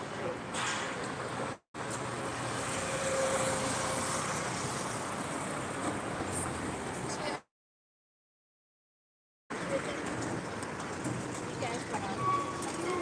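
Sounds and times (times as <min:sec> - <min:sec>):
traffic hum: 0:00.0 - 0:07.5, 0:09.5 - 0:13.0.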